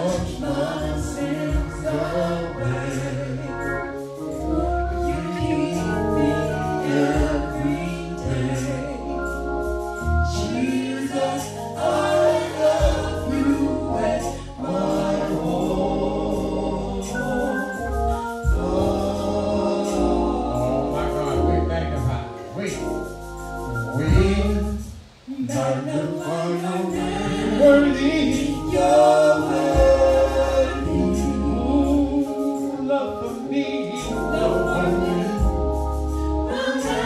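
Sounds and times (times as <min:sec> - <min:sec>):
choir singing: 0:00.0 - 0:22.7, 0:23.6 - 0:37.0
organ accompaniment: 0:00.0 - 0:37.0.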